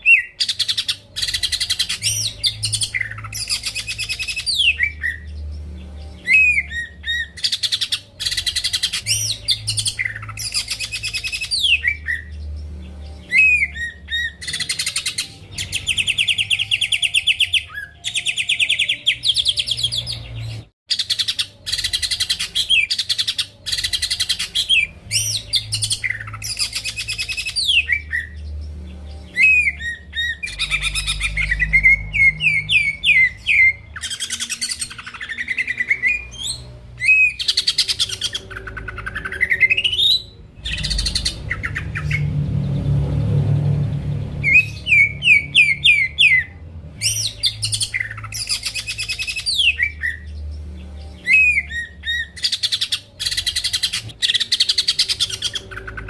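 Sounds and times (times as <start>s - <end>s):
bird singing whistles and trills: 0.0s - 42.4s, 44.3s - 56.0s.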